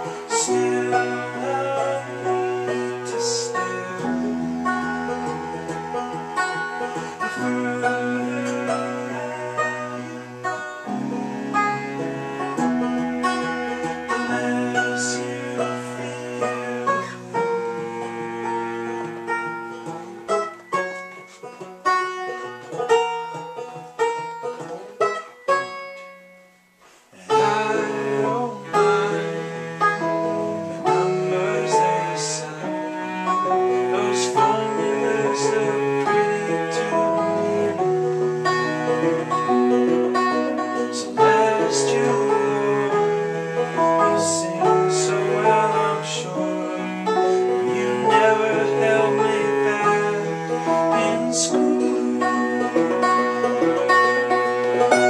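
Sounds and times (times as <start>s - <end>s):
bowed cello: 0.0s - 55.0s
plucked string instrument: 0.0s - 55.0s.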